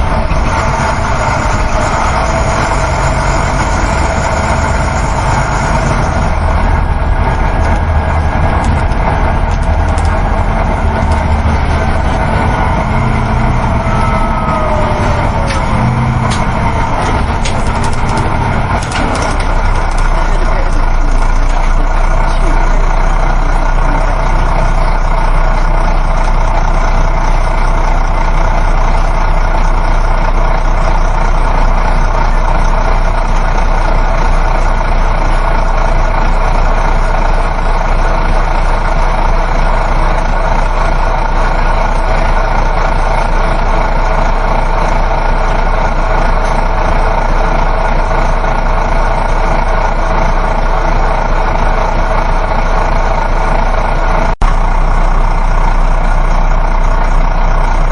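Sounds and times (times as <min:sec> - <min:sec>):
bus engine drone: 0:00.0 - 0:57.9
road and tyre rumble: 0:00.0 - 0:57.9.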